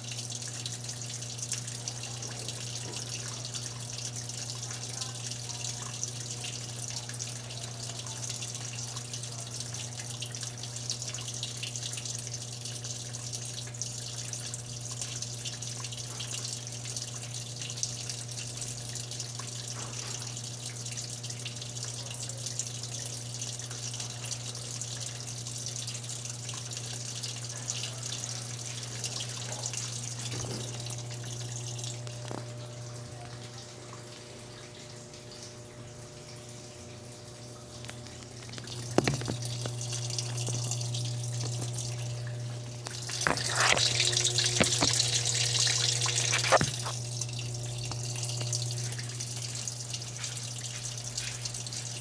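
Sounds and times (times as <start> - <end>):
water running into washing machine: 0.0 - 52.0.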